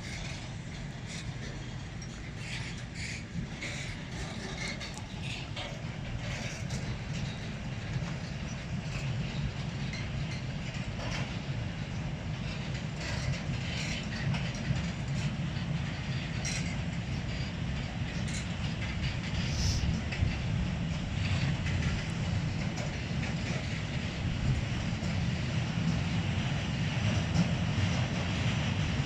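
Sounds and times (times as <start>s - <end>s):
freight train rumbling past: 0.0s - 29.0s
wheels clicking on rails: 0.0s - 29.0s.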